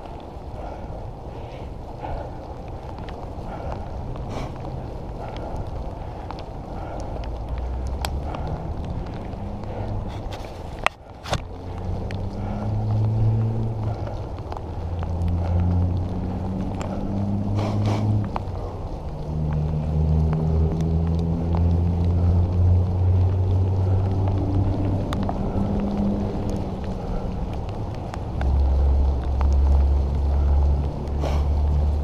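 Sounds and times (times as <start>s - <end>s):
low road hum: 0.0s - 32.0s
wind rushing over microphone: 0.0s - 32.0s.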